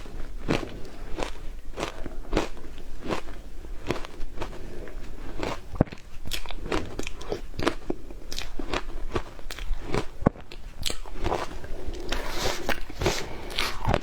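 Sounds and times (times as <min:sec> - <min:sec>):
ice crunching while chewed: 0:00.0 - 0:14.0.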